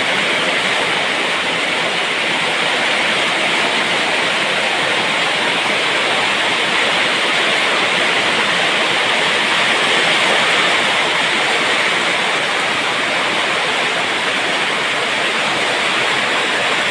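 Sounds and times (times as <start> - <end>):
heavy rain: 0.0 - 16.9.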